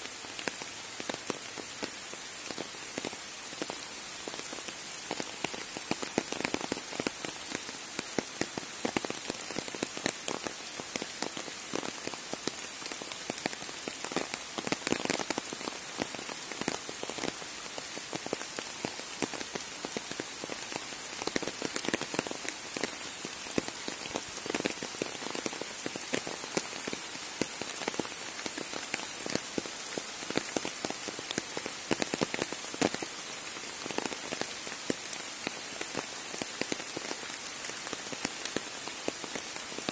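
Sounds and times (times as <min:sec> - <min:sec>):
rain drops tapping: 0:00.0 - 0:39.9.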